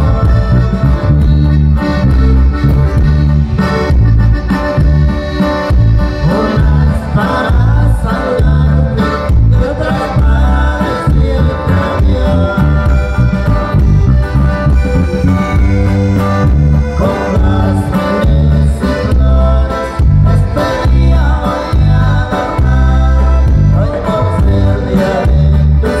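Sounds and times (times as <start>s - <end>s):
heavy bass line pulsing: 0.0s - 26.0s
live band playing: 0.0s - 26.0s.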